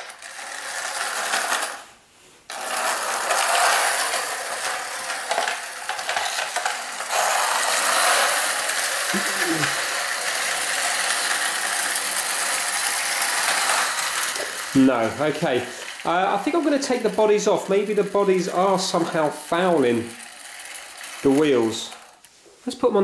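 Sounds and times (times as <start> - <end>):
clockwork toy cars whirring: 0.0 - 22.3.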